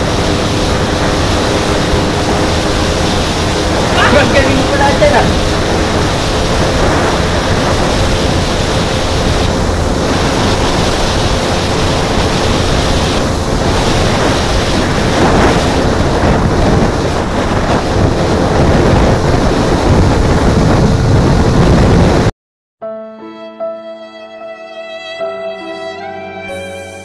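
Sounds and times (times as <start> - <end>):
motorcycle engine drone: 0.0 - 22.3
wind buffeting on microphone: 0.0 - 22.3.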